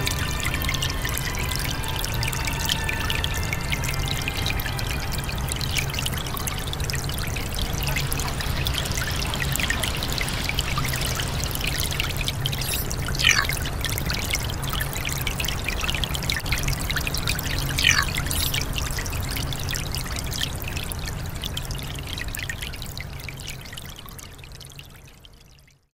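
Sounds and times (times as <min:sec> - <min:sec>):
brook babbling over rocks: 0:00.0 - 0:25.9.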